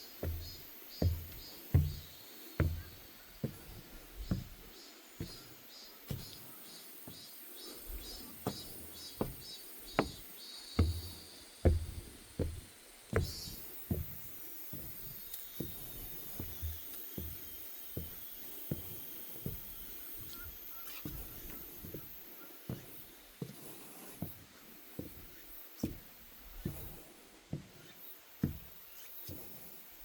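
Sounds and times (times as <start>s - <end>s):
footsteps on wooden deck: 0.0s - 30.0s.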